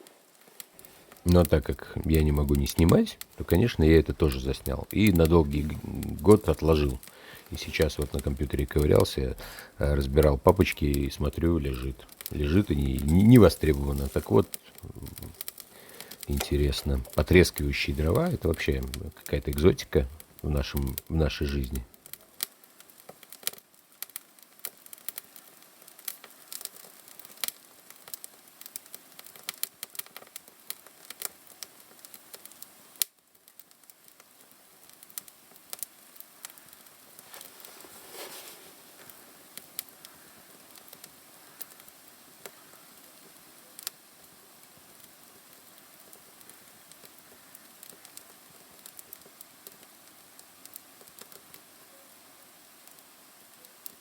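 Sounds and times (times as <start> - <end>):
faint hiss: 0.0 - 54.0
wood fire crackling: 0.0 - 54.0.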